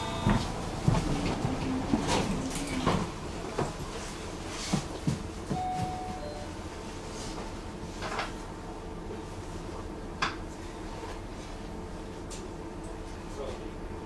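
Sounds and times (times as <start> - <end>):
tram rumbling: 0.0 - 14.0.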